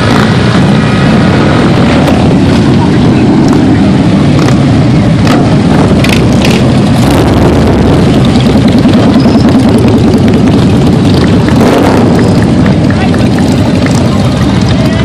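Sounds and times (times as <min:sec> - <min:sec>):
motorcycles rumbling past: 0:00.0 - 0:15.0.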